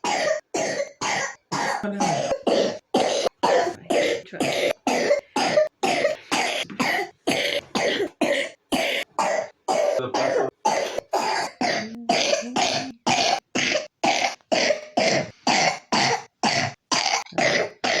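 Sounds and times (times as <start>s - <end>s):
child coughing rapidly: 0.0s - 18.0s.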